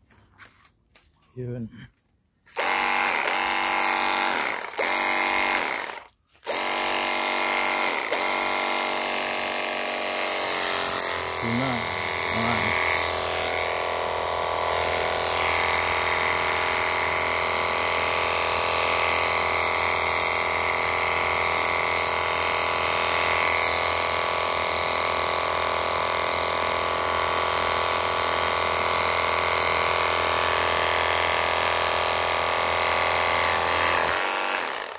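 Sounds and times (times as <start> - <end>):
pressure washer motor whine: 2.5 - 34.9.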